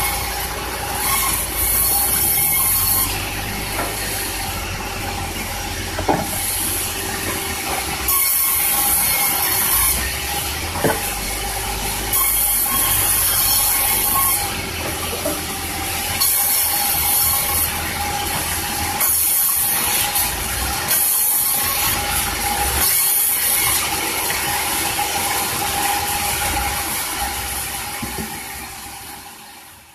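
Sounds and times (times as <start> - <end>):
saw hissing through wood: 0.0 - 28.6
sawmill machine hum: 0.0 - 29.9.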